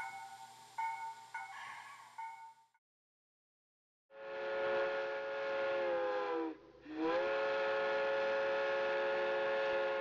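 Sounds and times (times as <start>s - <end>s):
steam locomotive chime whistle: 0.0s - 2.6s, 4.2s - 10.0s.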